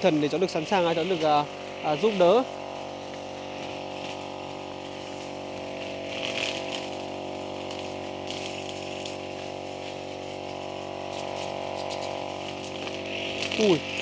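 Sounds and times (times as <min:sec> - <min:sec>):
brush cutter engine running: 0:00.0 - 0:14.0
short hissing bursts: 0:01.4 - 0:14.0.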